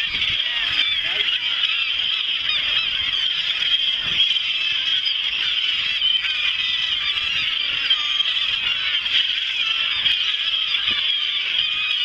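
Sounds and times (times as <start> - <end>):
gulls squawking: 0.0 - 12.0.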